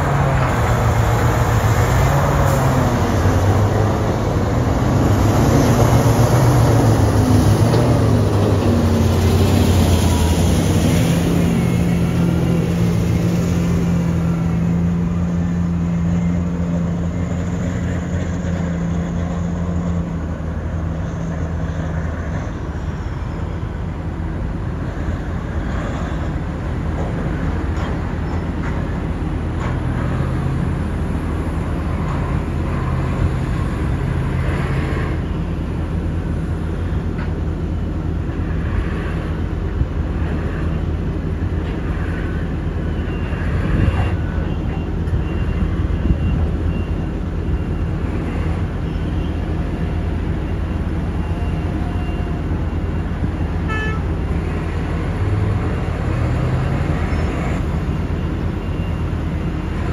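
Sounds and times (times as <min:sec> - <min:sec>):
heavy diesel machinery droning: 0:00.0 - 0:59.9.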